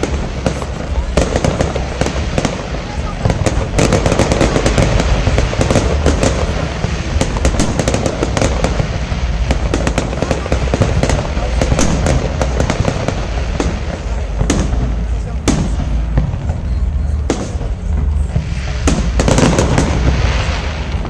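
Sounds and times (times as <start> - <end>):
firework crack: 0.0 - 21.0
fireworks crackling and popping: 0.0 - 21.0
low rumble: 0.0 - 21.0.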